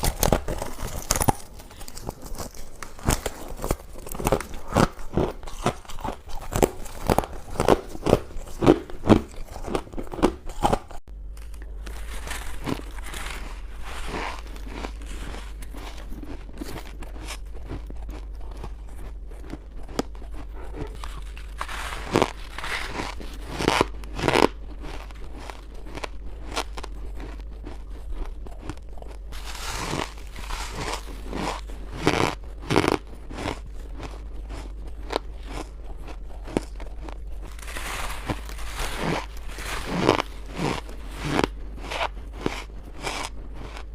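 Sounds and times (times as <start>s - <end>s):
crunching ice: 0.0s - 43.9s.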